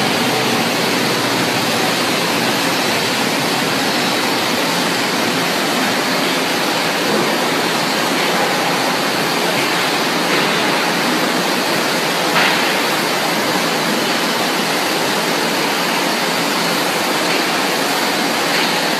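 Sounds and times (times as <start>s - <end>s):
steam venting hiss: 0.0s - 18.9s.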